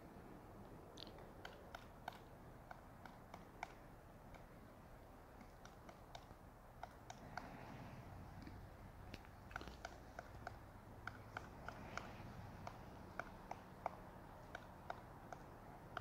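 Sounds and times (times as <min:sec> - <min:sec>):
woodpecker tapping on bark: 0:00.9 - 0:07.6, 0:08.3 - 0:16.0.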